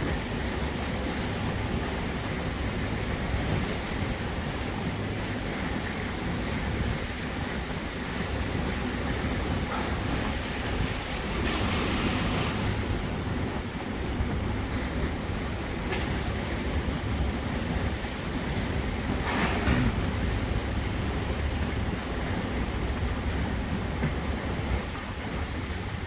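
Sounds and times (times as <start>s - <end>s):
boat engine rumble: 0.0s - 26.0s
water splashing along boat hull: 0.0s - 26.0s
wind buffeting microphone: 0.0s - 26.0s.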